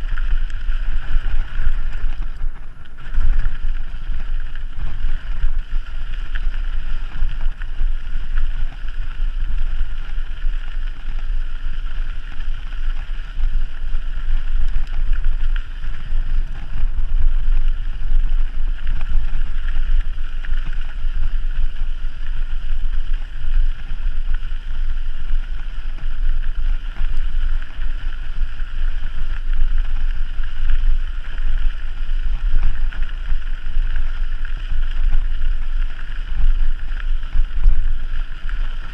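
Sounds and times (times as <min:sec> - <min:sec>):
wind buffeting microphone: 0:00.0 - 0:31.3.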